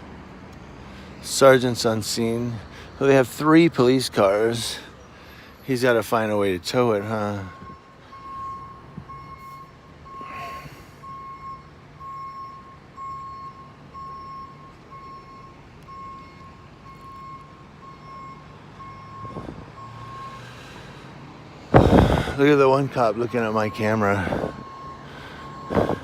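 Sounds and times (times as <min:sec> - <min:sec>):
truck engine running: 0:00.0 - 0:26.0
truck reversing alarm beeping: 0:00.0 - 0:26.0.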